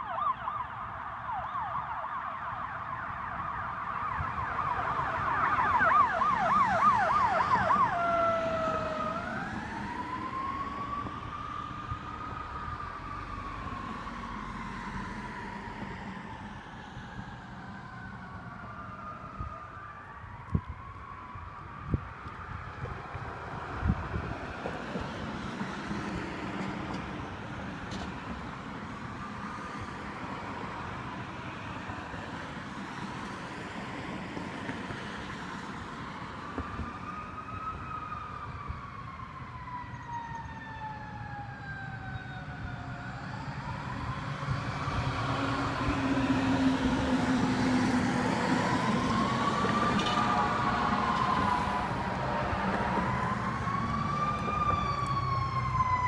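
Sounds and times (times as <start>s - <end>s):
emergency vehicle siren wailing: 0.0s - 56.0s.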